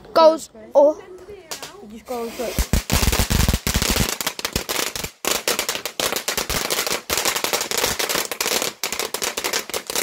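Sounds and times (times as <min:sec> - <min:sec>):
firework crackling: 0:01.5 - 0:10.0.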